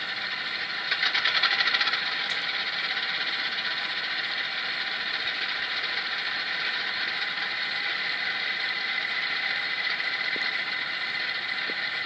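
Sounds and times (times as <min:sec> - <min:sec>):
model locomotive engine sound: 0:00.0 - 0:12.0.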